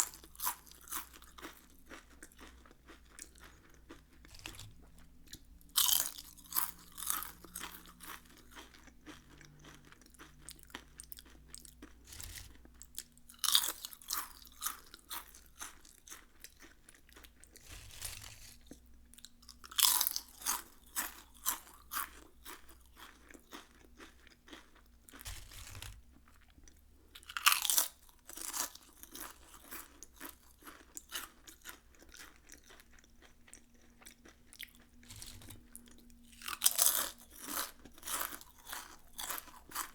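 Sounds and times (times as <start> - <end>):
crunchy chewing: 0.0 - 39.9
potato chips bitten: 0.0 - 39.9.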